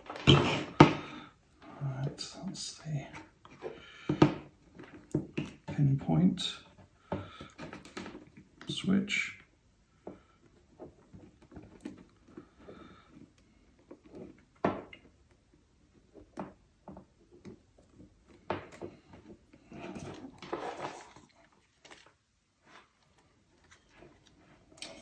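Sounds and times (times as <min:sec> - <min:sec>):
rustling and rummaging: 0:00.0 - 0:05.8, 0:10.4 - 0:25.0.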